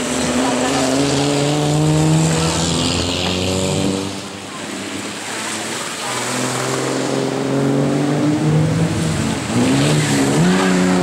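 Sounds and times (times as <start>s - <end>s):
racing car engine accelerating: 0.0s - 11.0s.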